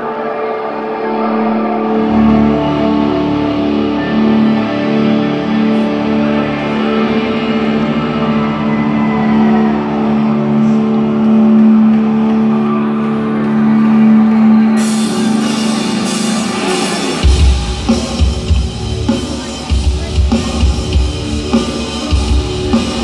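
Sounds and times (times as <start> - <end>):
electric guitars sustained chord: 0.0 - 23.0.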